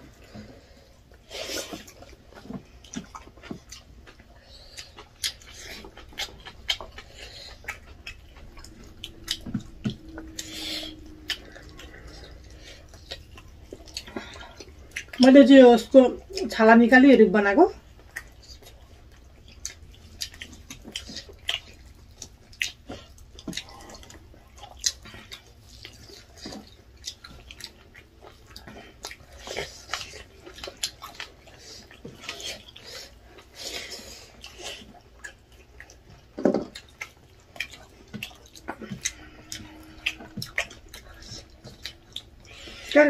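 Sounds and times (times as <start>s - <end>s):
wet chewing and lip smacks: 0.0s - 15.4s, 17.8s - 43.0s.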